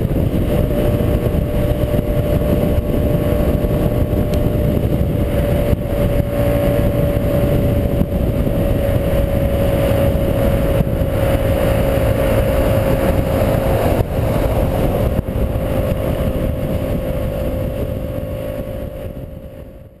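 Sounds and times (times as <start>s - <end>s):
motorcycle engine cruising: 0.0s - 20.0s
wind rumble on microphone: 0.0s - 20.0s.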